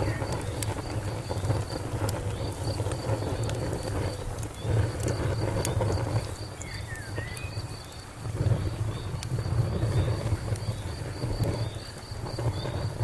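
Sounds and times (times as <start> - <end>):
cricket chirping: 0.0 - 13.0
wood fire crackling: 0.0 - 13.0.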